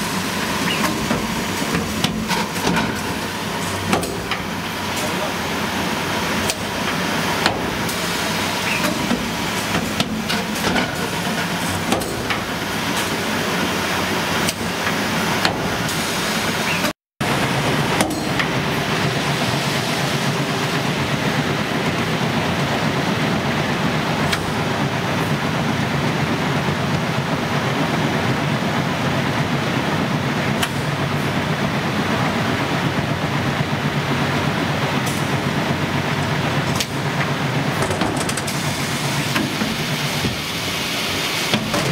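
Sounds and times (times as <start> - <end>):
filling machine running: 0.0 - 41.9.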